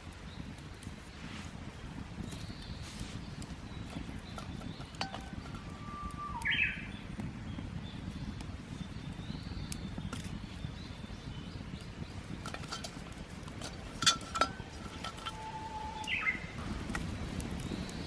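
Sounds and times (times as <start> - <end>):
low outdoor background: 0.0 - 18.0
small crackles: 0.0 - 18.0.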